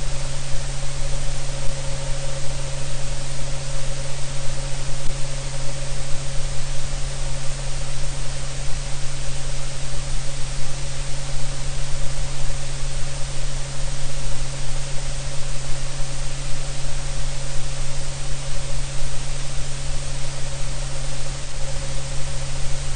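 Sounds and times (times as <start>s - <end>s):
static-like hiss: 0.0s - 22.9s.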